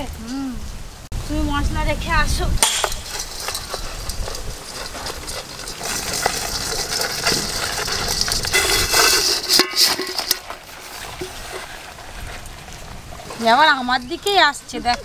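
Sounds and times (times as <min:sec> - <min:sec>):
crabs rustling on leaf: 0:02.6 - 0:15.0
crabs scraping against metal bowl: 0:02.6 - 0:15.0.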